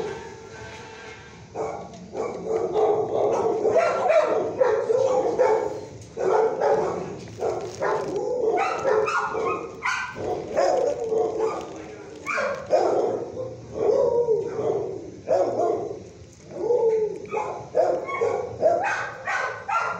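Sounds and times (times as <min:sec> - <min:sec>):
dogs barking: 0:01.5 - 0:19.9.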